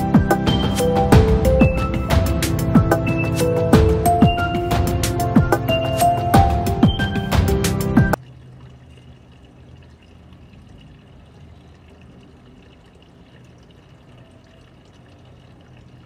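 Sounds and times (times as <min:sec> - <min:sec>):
fountain water trickling and splashing: 0:00.0 - 0:16.0.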